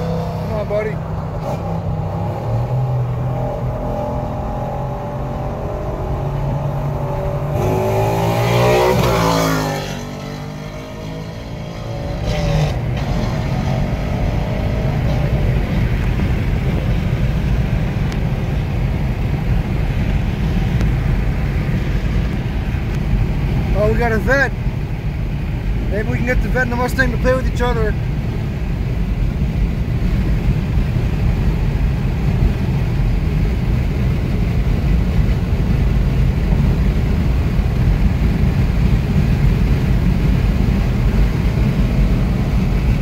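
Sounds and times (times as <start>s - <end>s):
car engine accelerating hard: 0.0s - 43.0s
engine and road noise drone: 0.0s - 43.0s.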